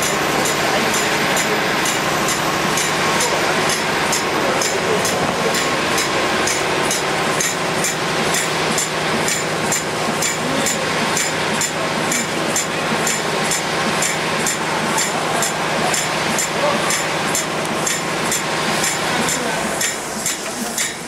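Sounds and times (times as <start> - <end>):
machine mechanical din: 0.0 - 21.0.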